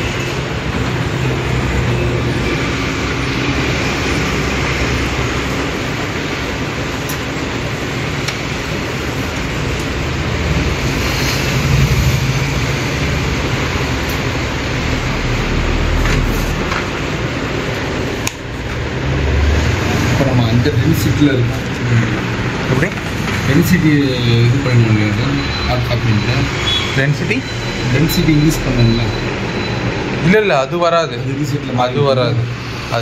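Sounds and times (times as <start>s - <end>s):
copier printing and feeding paper: 0.0s - 33.0s.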